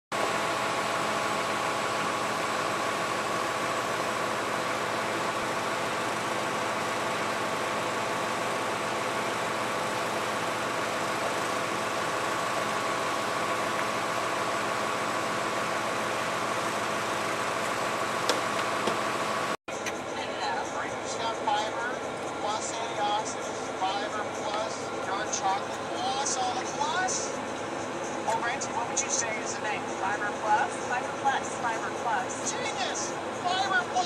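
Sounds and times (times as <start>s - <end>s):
engine idling: 0.1s - 34.0s.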